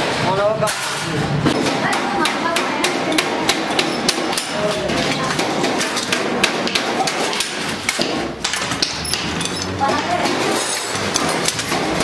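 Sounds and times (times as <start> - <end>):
hammering on sheet metal: 0.0 - 12.0.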